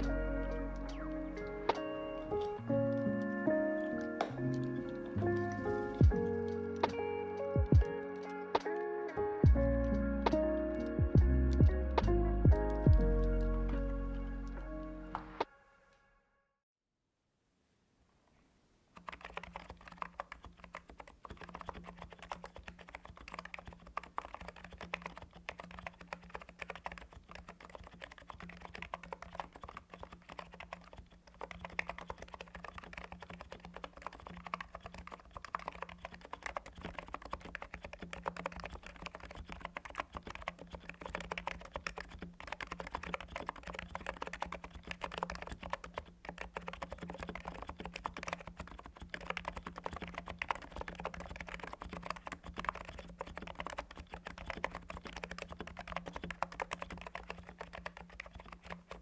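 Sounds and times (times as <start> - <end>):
keyboard typing: 0.0 - 8.8, 19.0 - 59.0.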